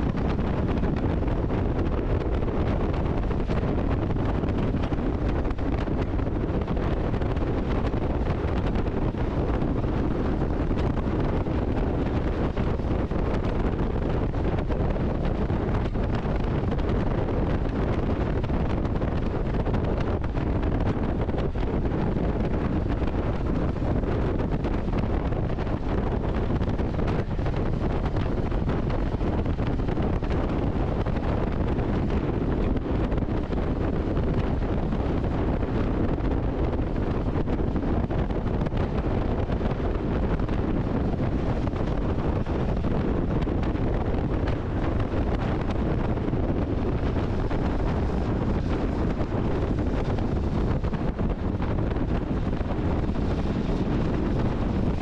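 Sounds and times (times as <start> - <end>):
vehicle road and engine noise: 0.0 - 55.0
wind rushing over microphone: 0.0 - 55.0.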